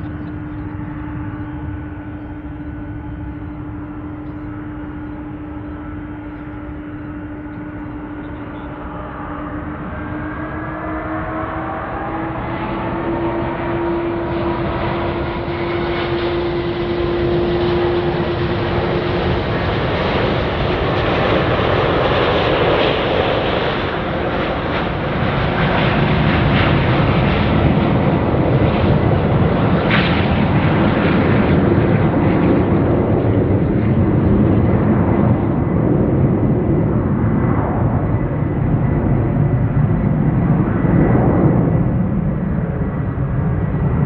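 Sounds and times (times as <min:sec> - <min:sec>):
jet engine roar: 0:00.0 - 0:44.0.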